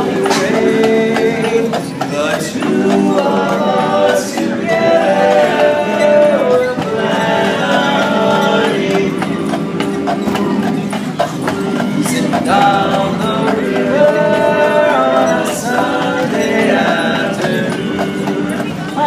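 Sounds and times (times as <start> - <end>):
male voices singing in harmony: 0.0 - 19.0.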